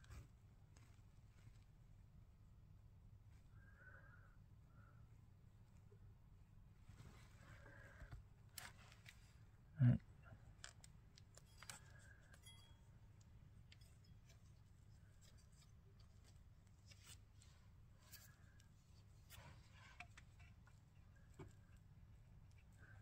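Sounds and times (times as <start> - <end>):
faint clicks and rustles of handling: 0.0 - 23.0
faint low hum: 0.0 - 23.0.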